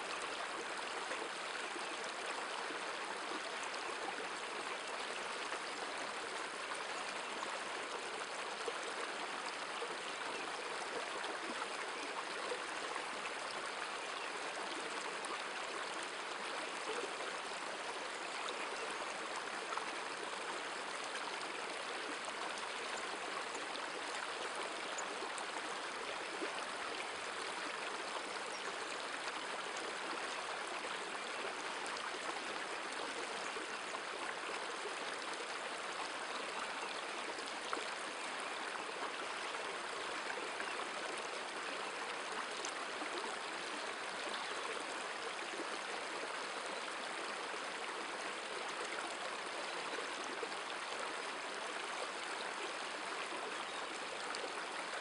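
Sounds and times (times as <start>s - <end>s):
river water running over stones: 0.0s - 55.0s.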